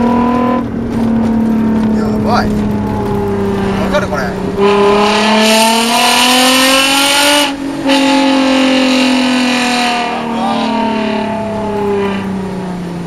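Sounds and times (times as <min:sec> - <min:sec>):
car exhaust under throttle: 0:00.0 - 0:13.0.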